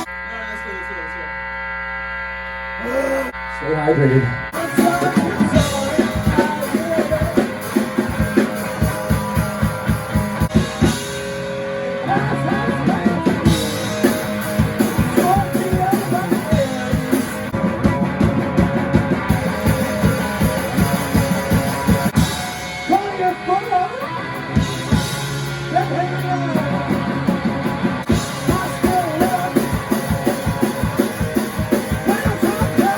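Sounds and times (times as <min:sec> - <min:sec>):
electric guitar: 0:02.4 - 0:32.9
drum kit playing: 0:04.5 - 0:32.9.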